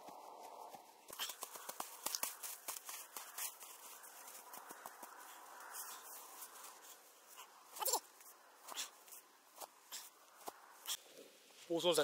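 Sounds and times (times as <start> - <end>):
snow crunching: 0.0 - 12.0.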